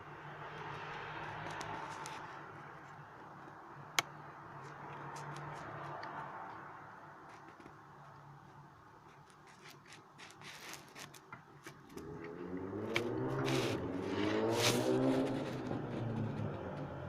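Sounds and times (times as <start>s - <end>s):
light clicks and scrapes: 0.7s - 17.0s.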